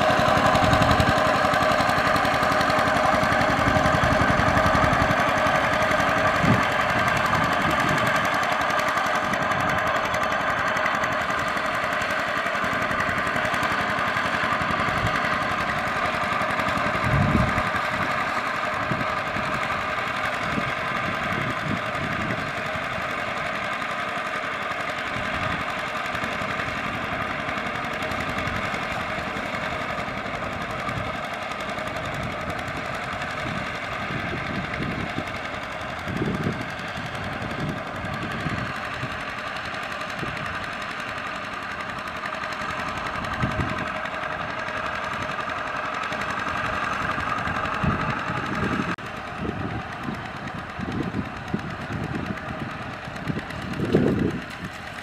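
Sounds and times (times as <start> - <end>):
diesel tractor engine chugging: 0.0 - 55.0
wheels churning through water: 0.0 - 55.0.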